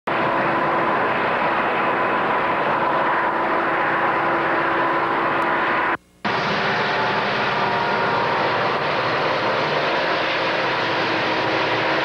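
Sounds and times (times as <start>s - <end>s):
faint constant whine: 0.1s - 12.0s
moving train roar: 0.1s - 12.0s.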